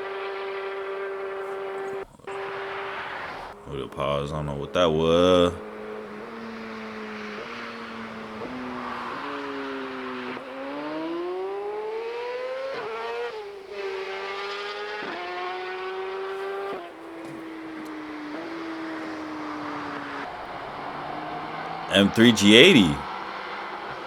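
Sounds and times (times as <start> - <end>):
car engine accelerating hard: 1.3 - 21.9.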